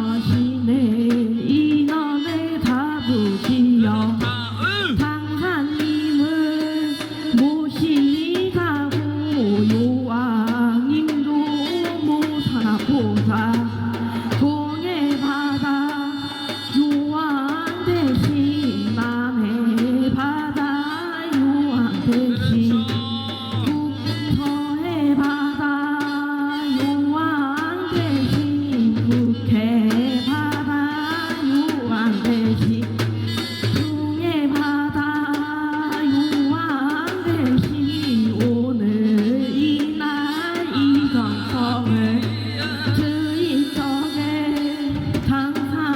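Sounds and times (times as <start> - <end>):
drum accompaniment: 0.0 - 45.9.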